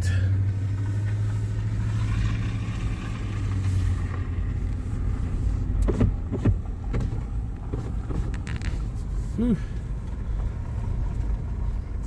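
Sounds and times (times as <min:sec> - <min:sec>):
vehicle engine and road hum: 0:00.0 - 0:12.0.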